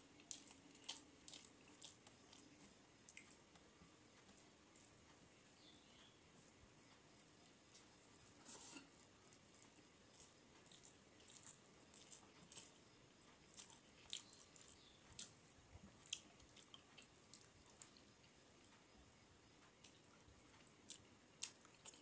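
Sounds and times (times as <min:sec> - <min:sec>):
chewing: 0:00.2 - 0:18.9, 0:19.6 - 0:22.0.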